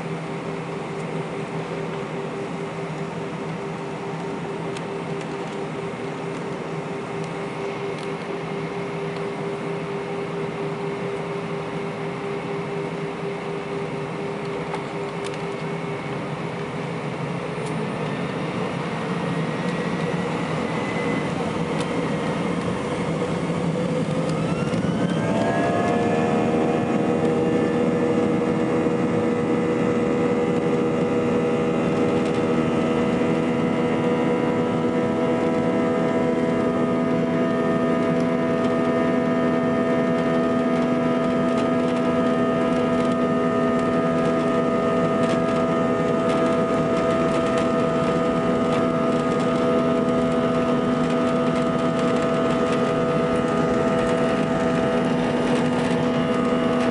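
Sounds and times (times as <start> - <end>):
jet engines spooling up: 0.0 - 56.9.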